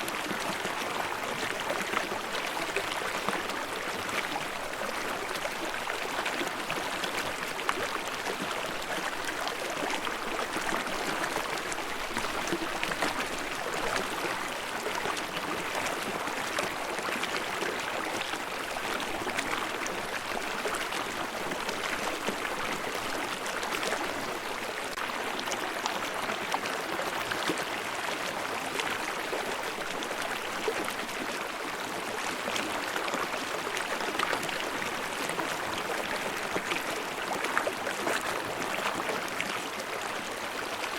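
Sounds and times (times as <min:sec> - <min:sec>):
babbling stream: 0:00.0 - 0:40.9.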